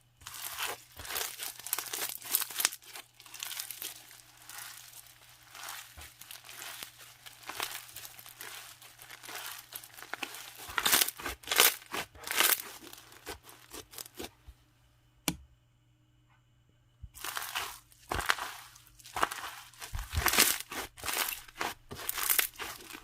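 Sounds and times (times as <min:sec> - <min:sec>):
slime crackling and squelching: 0:00.2 - 0:14.4, 0:17.2 - 0:23.0.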